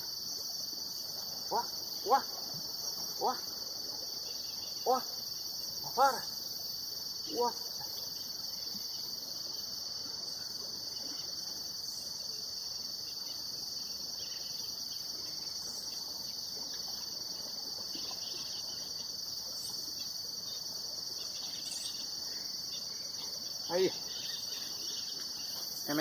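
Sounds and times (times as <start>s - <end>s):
insect chorus trilling: 0.0s - 26.0s.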